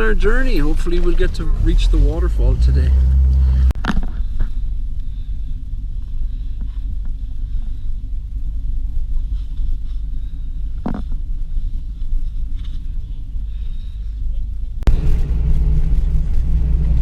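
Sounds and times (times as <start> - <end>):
van engine rumbling from inside: 0.0 - 17.0.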